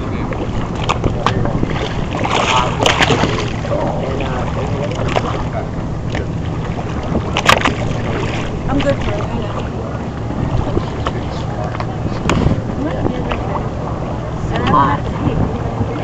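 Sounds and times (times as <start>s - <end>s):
boat engine running: 0.0s - 16.0s
choppy water on hull: 0.0s - 16.0s
faint voices: 0.0s - 16.0s
wind buffeting microphone: 0.0s - 16.0s.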